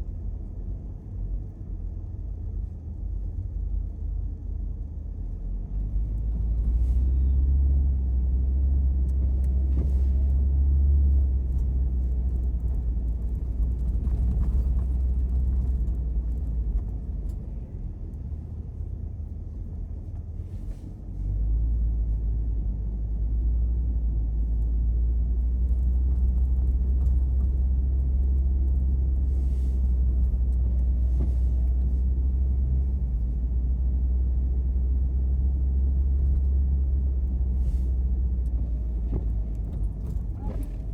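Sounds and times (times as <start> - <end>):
car cabin rumble while driving: 0.0 - 40.9.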